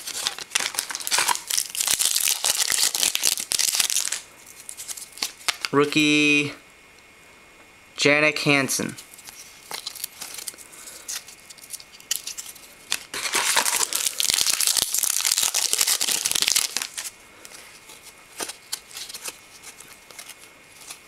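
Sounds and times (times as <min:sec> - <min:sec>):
foil wrapper tearing and crinkling: 0:00.0 - 0:05.8, 0:09.1 - 0:21.0.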